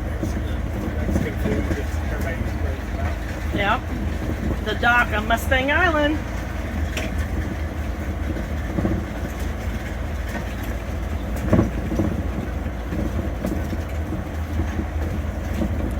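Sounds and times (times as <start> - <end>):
road and engine rumble in vehicle: 0.0 - 15.9.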